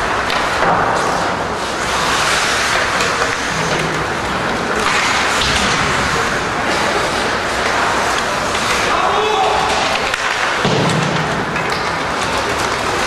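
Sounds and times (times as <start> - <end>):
arena crowd noise: 0.0 - 13.0.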